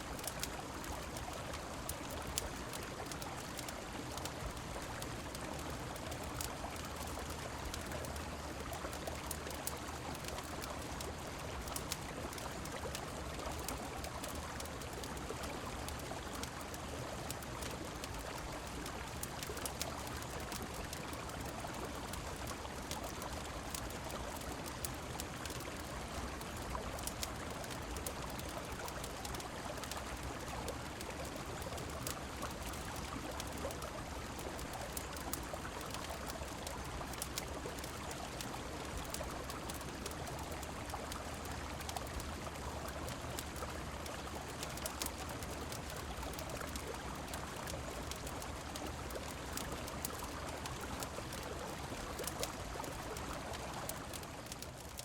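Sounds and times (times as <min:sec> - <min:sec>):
flowing river: 0:00.0 - 0:55.0
rain: 0:00.0 - 0:55.0
wood fire crackling: 0:00.1 - 0:55.0.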